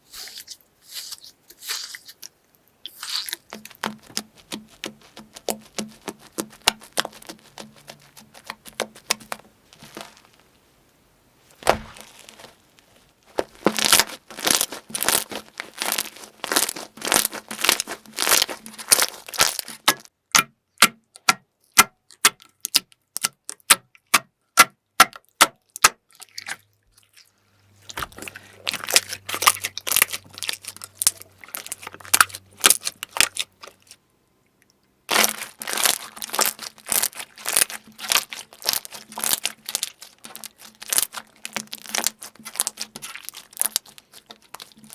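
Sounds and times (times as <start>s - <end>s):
crunchy slime crackling: 0.1s - 10.5s, 11.6s - 20.1s, 25.7s - 34.0s, 35.1s - 44.9s.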